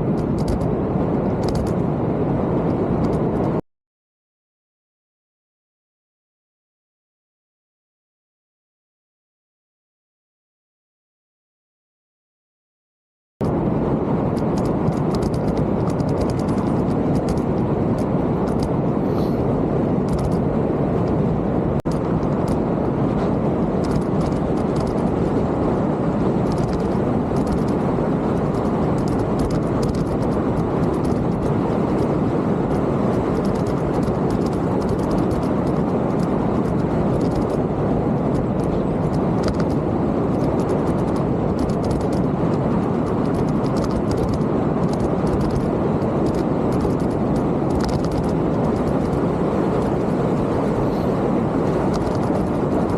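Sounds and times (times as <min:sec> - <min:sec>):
wind buffeting microphone: 0:00.0 - 0:03.6, 0:13.4 - 0:52.9.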